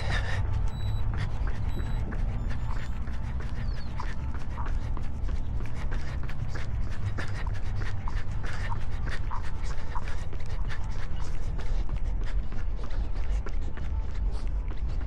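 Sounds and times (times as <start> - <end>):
runner breathing hard: 0.0 - 15.0.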